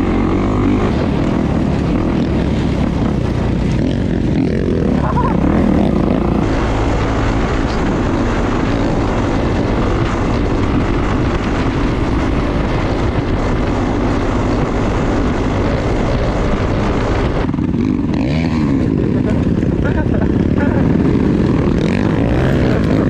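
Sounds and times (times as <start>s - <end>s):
dirt bike engine running: 0.0s - 23.0s
wind rushing over microphone: 0.0s - 23.0s.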